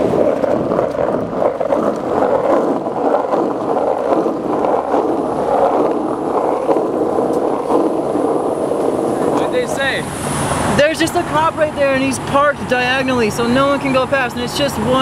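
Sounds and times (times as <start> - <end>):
skateboard wheels rolling on rough road: 0.0 - 15.0.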